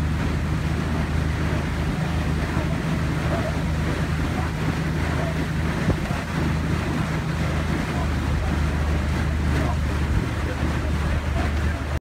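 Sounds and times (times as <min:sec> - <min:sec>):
outboard motor running: 0:00.0 - 0:12.0
wind buffeting microphone: 0:00.0 - 0:12.0.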